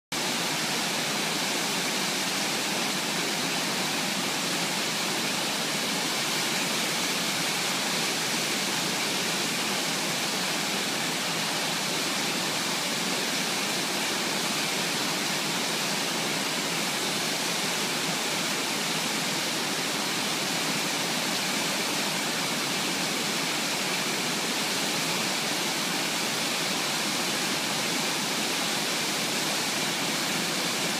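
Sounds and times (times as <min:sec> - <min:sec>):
waterfall rushing: 0:00.2 - 0:30.9.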